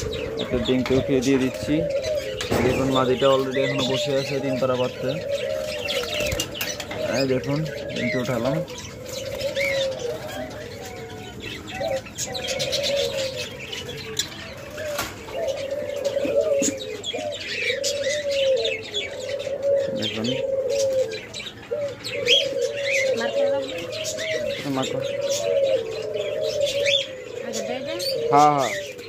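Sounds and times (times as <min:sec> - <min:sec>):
doves cooing: 0:00.0 - 0:29.0
small birds chirping: 0:00.0 - 0:29.0.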